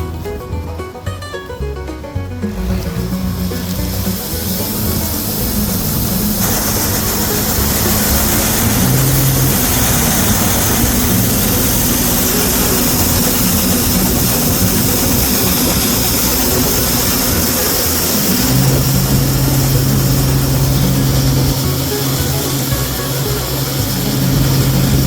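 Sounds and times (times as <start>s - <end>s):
combine harvester engine running: 0.0s - 25.0s
low hum: 0.0s - 25.0s
hiss: 2.7s - 25.0s.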